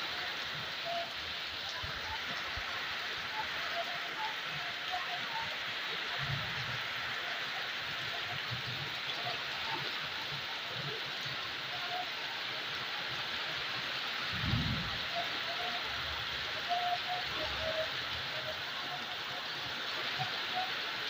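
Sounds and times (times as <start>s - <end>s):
heavy rain pouring on roofs: 0.0s - 21.0s.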